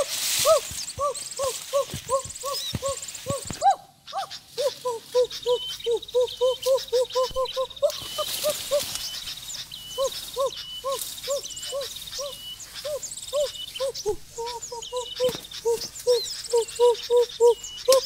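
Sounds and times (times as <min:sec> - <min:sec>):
bird chirps and trills: 0:00.0 - 0:18.0
bird hooting: 0:00.0 - 0:18.0.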